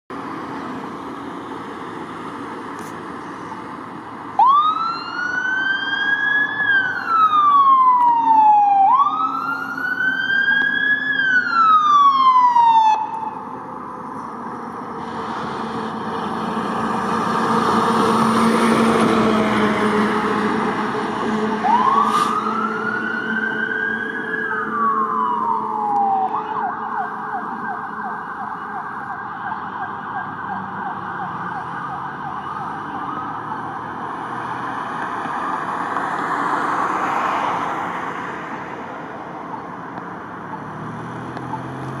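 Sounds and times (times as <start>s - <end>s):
fire truck siren: 3.8s - 42.0s.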